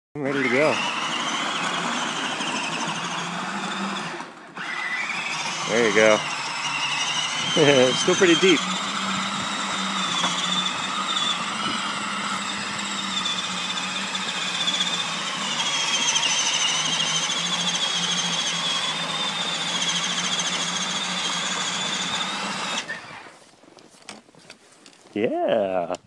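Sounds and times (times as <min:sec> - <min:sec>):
electric motors whining: 0:00.2 - 0:24.3.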